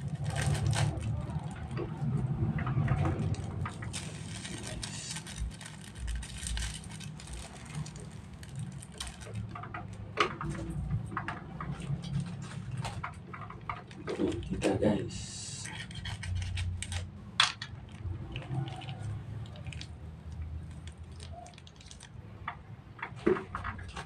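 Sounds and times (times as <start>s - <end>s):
plastic sachets crinkling: 0.0s - 10.7s, 11.6s - 22.2s.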